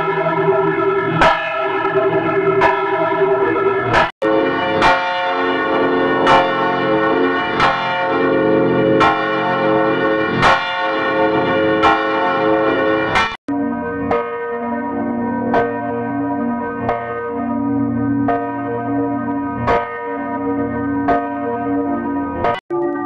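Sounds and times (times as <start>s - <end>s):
bells ringing: 0.0s - 23.0s.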